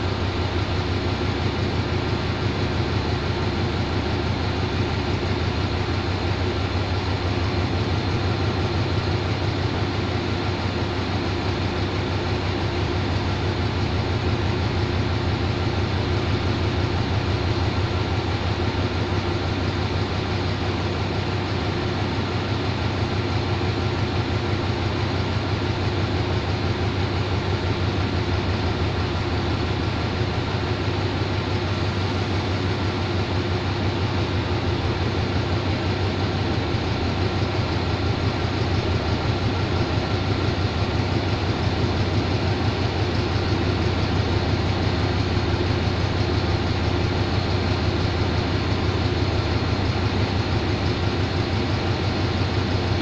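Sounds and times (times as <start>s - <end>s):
diesel locomotive idling: 0.0s - 53.0s.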